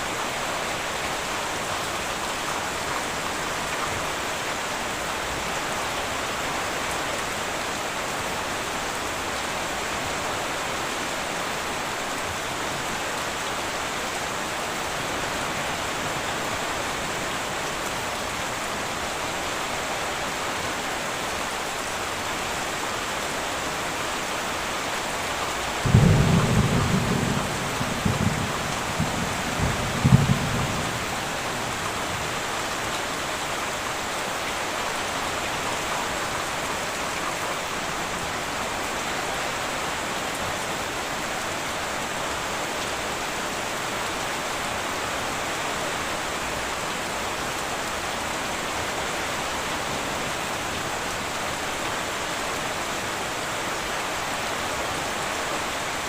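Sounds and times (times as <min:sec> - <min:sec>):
heavy rain on metal roof: 0:00.0 - 0:56.0.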